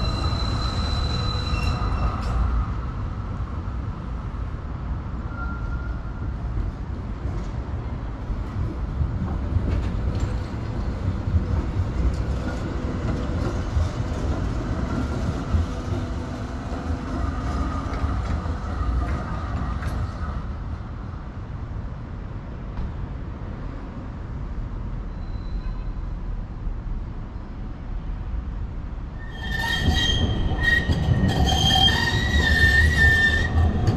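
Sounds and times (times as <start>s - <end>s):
electric tram rumbling on tracks: 0.0s - 33.9s.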